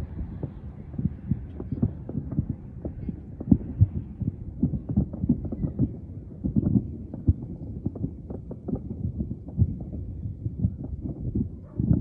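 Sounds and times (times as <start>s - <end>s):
distant fireworks thuds and pops: 0.0s - 12.0s.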